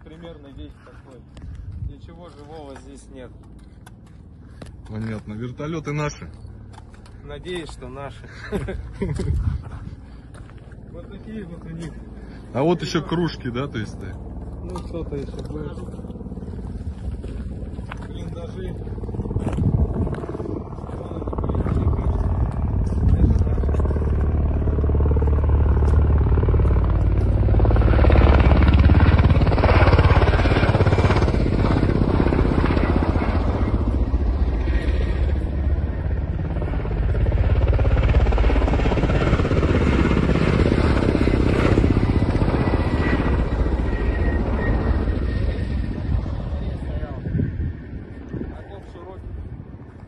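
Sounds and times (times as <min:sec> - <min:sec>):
helicopters flying overhead: 0:00.0 - 0:50.0.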